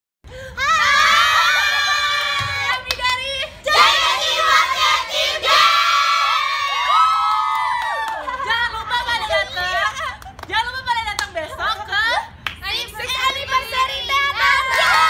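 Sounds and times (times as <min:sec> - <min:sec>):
women shouting and cheering: 0:00.6 - 0:10.6, 0:11.7 - 0:15.0.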